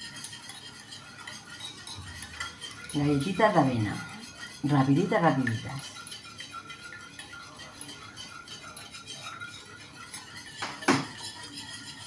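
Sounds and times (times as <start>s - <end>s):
utensil clinking against bowl: 0.0s - 12.0s
utensil stirring in glass bowl: 0.0s - 12.0s.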